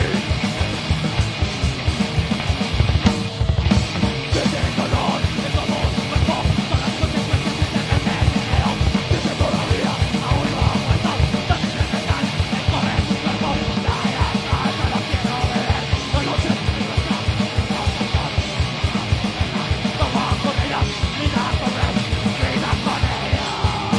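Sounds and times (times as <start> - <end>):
bass guitar: 0.0 - 23.9
distorted electric guitars: 0.0 - 23.9.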